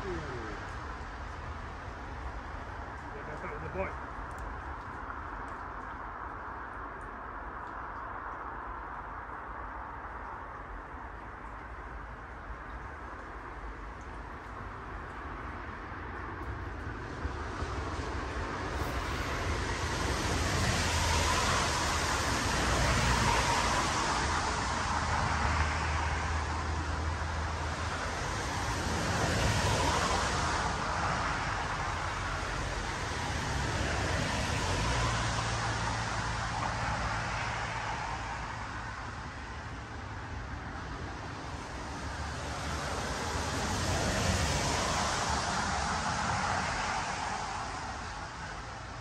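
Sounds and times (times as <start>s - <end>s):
outdoor rushing noise: 0.0s - 49.0s.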